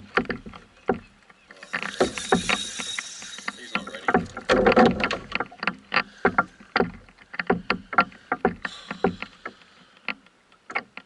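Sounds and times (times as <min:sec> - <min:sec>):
knocks and clicks on canoe: 0:00.0 - 0:03.0, 0:03.8 - 0:11.0.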